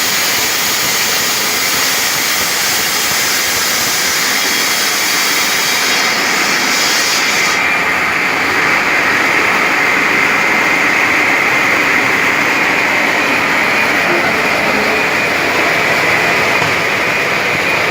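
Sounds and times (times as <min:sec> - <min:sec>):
stone-cutting saw whining: 0:00.0 - 0:17.9.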